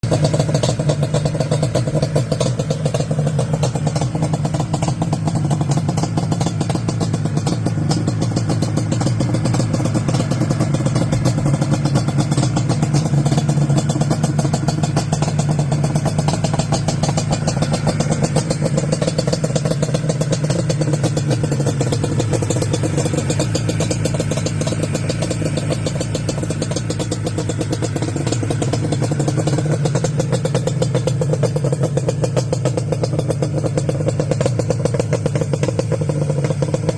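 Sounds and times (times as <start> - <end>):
two-stroke engine running: 0.0 - 36.9.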